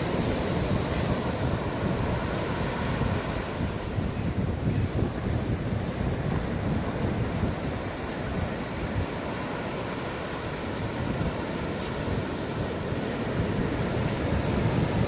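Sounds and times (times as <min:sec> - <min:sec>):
ocean waves washing on beach: 0:00.0 - 0:15.0
wind buffeting microphone: 0:00.0 - 0:15.0.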